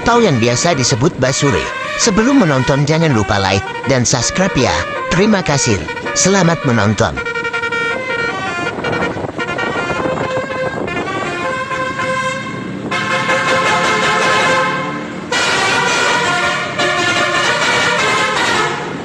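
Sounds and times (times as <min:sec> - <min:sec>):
musical bus air horns: 0:00.0 - 0:19.0
road and engine noise: 0:00.0 - 0:19.0.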